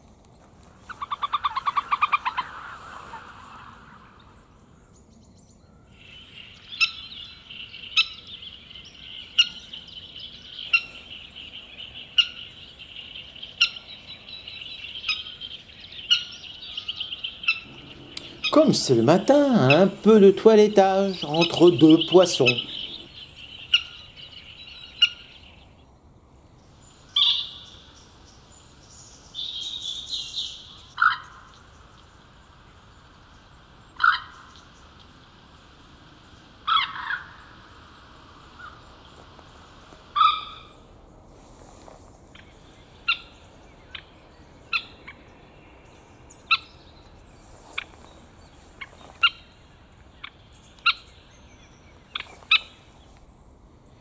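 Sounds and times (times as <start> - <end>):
bird's sharp calls: 0.7 - 25.7, 26.9 - 28.2, 29.3 - 35.2, 36.2 - 53.2.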